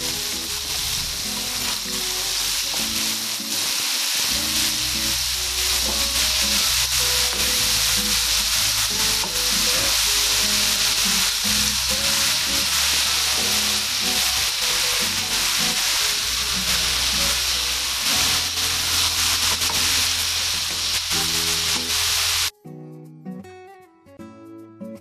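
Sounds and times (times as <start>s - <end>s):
chicken sizzling in oil: 0.0s - 22.5s.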